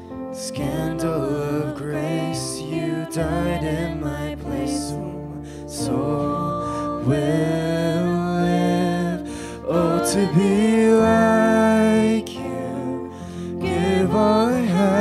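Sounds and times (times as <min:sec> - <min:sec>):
keyboard: 0:00.0 - 0:15.0.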